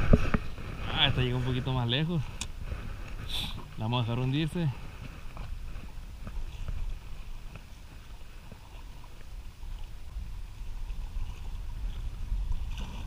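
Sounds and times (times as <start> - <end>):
water lapping against rocks: 0.0 - 13.0
wind rumbling on microphone: 0.0 - 13.0.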